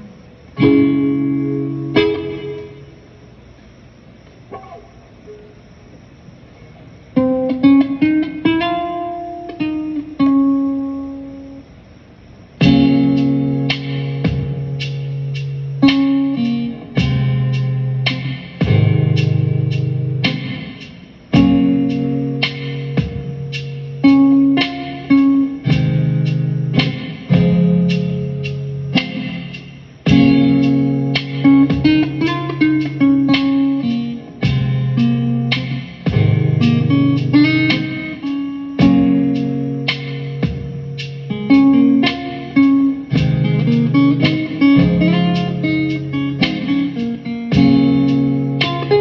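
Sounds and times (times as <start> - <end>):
guitar chord ringing: 0.0 - 3.0, 4.5 - 5.5, 6.6 - 11.7, 12.6 - 49.0
guitar plucked notes: 0.0 - 3.0, 4.5 - 5.5, 7.1 - 11.6, 12.6 - 49.0.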